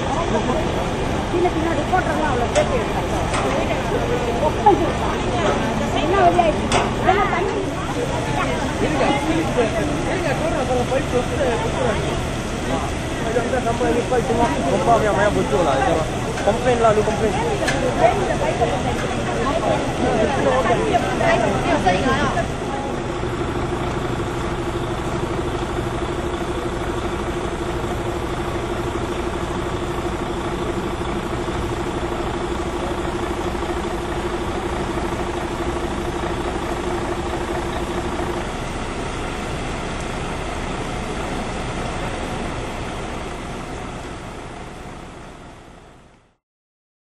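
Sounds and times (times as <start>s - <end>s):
engine idling: 0.0s - 46.4s.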